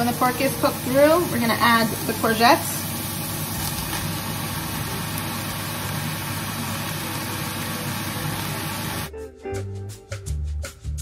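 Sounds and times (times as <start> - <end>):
meat sizzling in a pan: 0.0 - 9.1.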